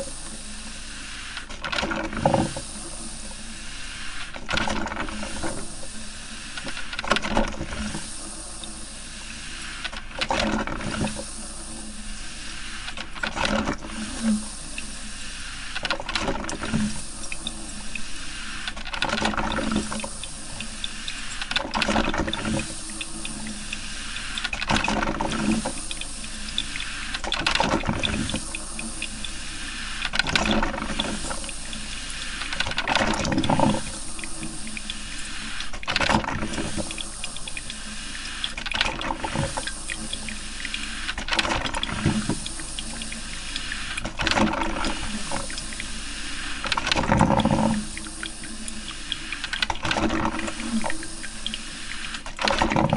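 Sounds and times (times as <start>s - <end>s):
coffee maker gurgling and hissing: 0.0s - 52.9s.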